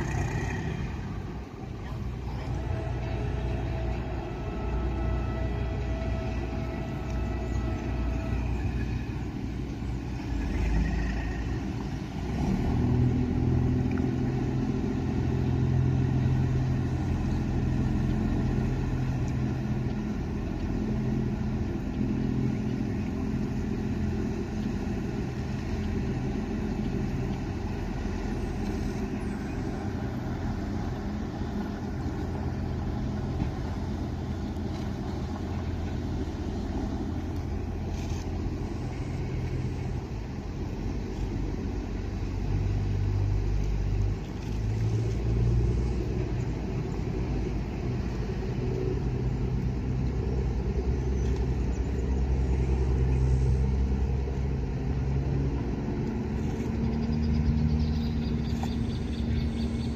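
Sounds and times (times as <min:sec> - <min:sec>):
boat engine droning: 0:00.0 - 0:59.9
water rushing: 0:00.0 - 0:59.9.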